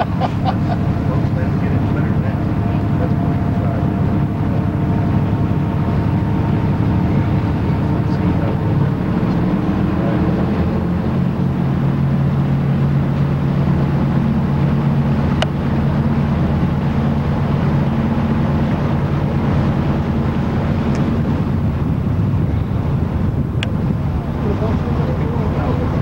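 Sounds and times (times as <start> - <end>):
boat engine droning: 0.0 - 26.0
wind and water rushing: 0.0 - 26.0.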